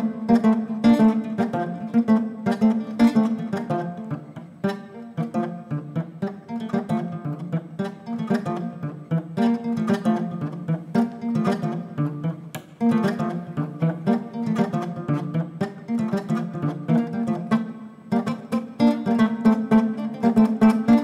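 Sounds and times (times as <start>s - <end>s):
plucked string music: 0.0s - 21.0s.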